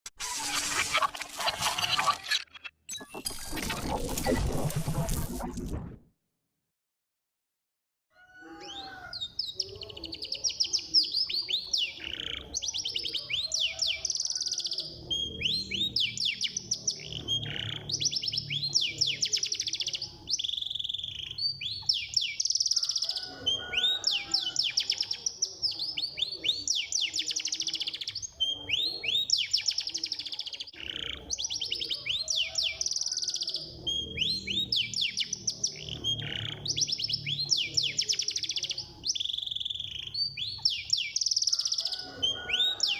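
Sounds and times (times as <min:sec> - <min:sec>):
canary singing trills: 0:08.2 - 0:42.9.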